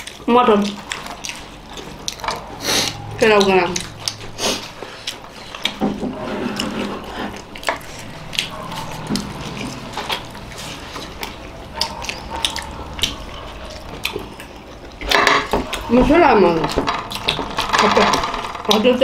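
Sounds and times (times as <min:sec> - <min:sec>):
mouth smacking and clicking: 0:00.0 - 0:06.0, 0:06.6 - 0:15.9
people chewing food: 0:00.0 - 0:19.0.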